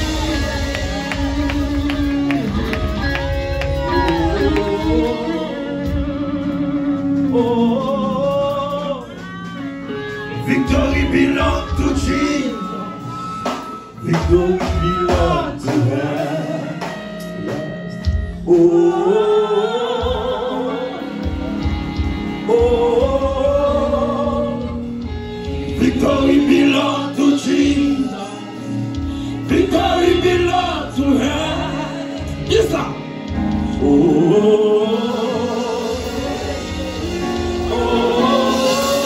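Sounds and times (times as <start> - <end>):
drum kit: 0.0 - 39.0
keyboard: 0.0 - 39.0.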